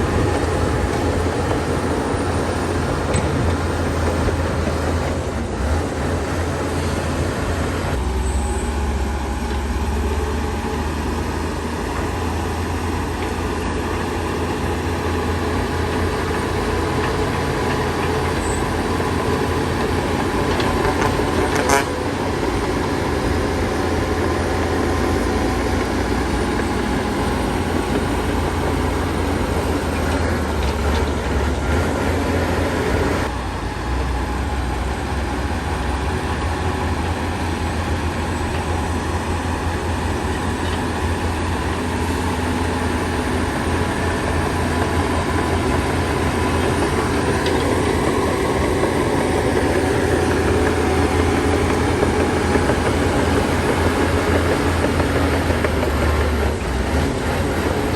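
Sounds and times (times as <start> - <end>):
diesel machinery engine rumble: 0.0 - 57.9.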